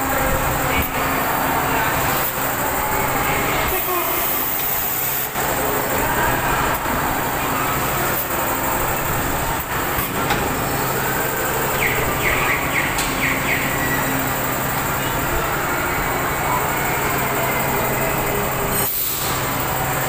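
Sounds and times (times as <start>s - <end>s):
ride machinery rumbling: 0.0s - 20.0s.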